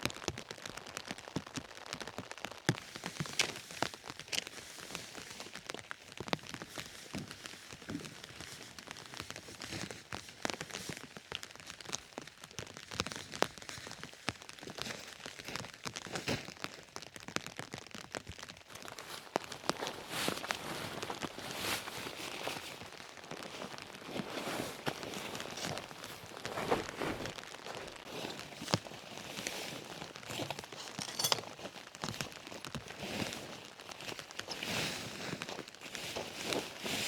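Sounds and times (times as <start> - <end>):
crinkly taps and crackles: 0.0 - 37.0
rain falling: 0.0 - 37.0.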